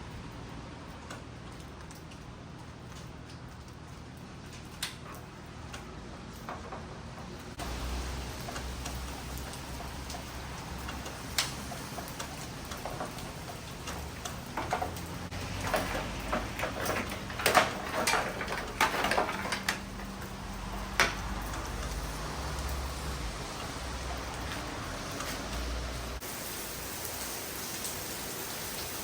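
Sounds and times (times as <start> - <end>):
rain on a hard surface: 0.0 - 29.0.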